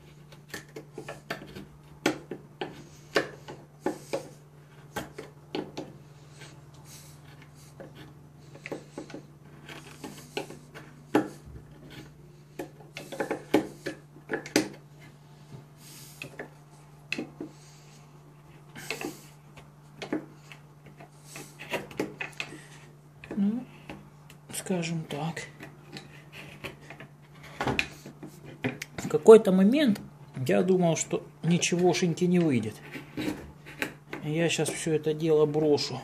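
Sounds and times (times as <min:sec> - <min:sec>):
knife scraping wood: 0:00.0 - 0:29.5, 0:31.0 - 0:36.0.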